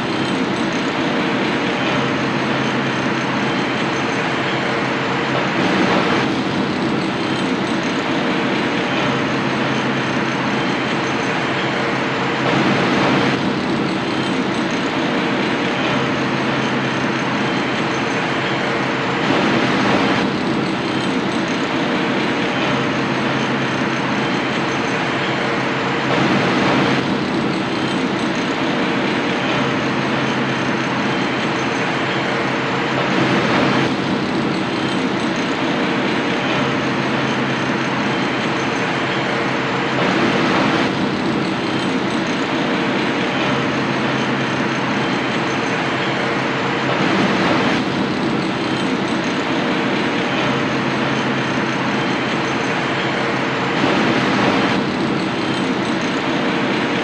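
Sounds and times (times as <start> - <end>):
city street roar: 0.0 - 57.0.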